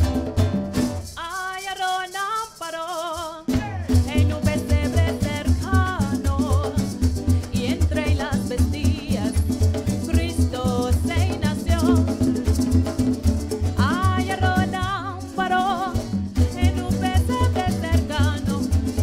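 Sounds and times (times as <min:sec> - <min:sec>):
band with guitars and maracas: 0:00.0 - 0:19.0
women singing: 0:01.2 - 0:12.4, 0:13.8 - 0:19.0.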